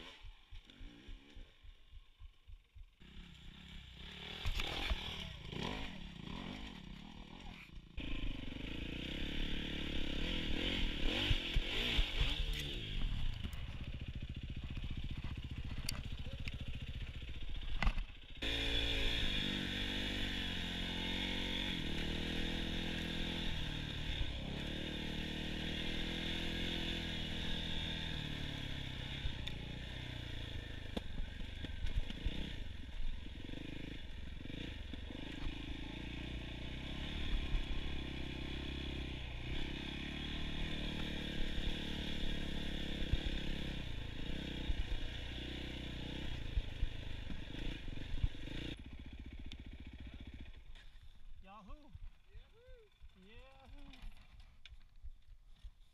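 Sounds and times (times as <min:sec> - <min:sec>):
dirt bike engine revving: 0:00.0 - 0:01.6, 0:03.0 - 0:50.8.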